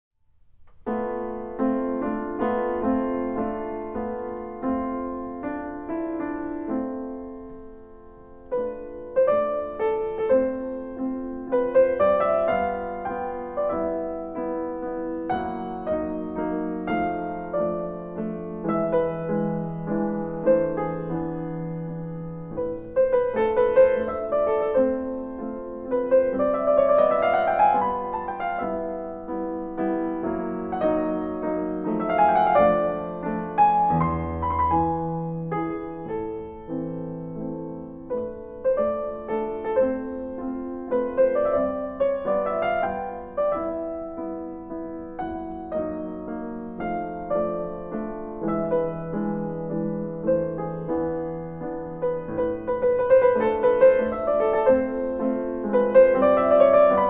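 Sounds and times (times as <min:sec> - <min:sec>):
grand piano playing: 0:00.5 - 0:57.0.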